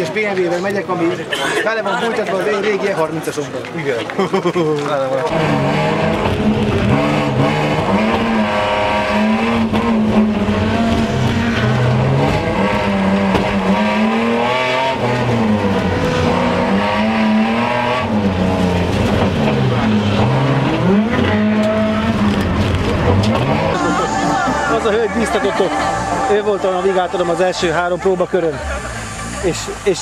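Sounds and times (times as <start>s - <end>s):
rally car engine revving: 5.3s - 30.0s.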